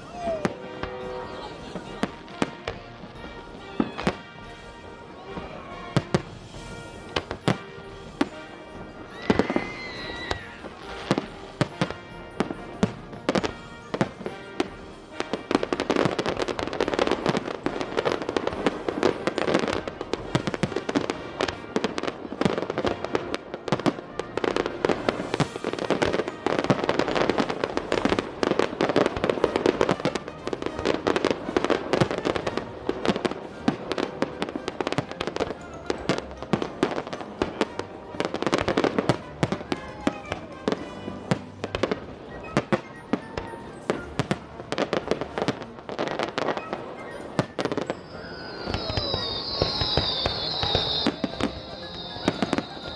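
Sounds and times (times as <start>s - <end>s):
fireworks bursting: 0.0s - 52.9s
music: 0.0s - 52.9s.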